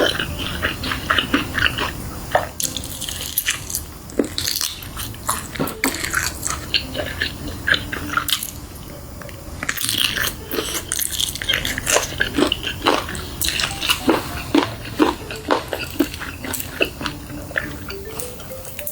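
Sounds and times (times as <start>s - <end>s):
person chewing crunchy food: 0.0s - 18.9s.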